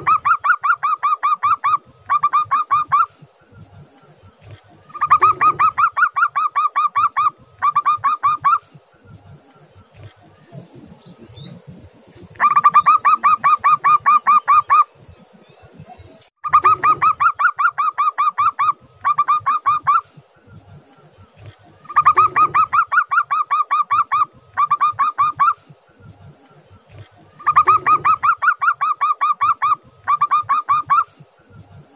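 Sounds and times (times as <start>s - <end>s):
dove cooing in staccato bursts: 0.0s - 15.0s, 16.4s - 31.9s.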